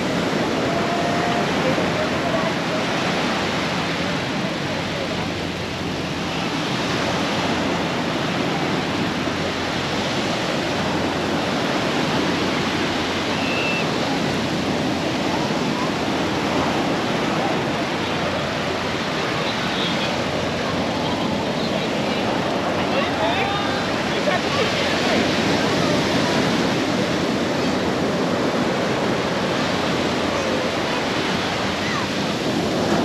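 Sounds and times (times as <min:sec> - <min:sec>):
faint voices: 0:00.0 - 0:33.0
surf washing onto beach: 0:00.0 - 0:33.0.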